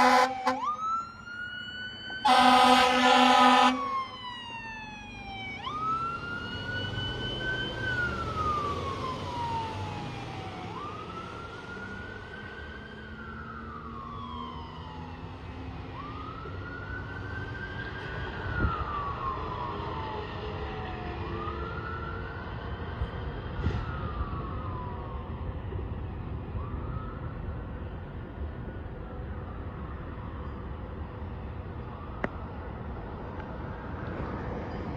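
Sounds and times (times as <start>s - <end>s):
fire truck siren wailing: 0.0s - 34.9s.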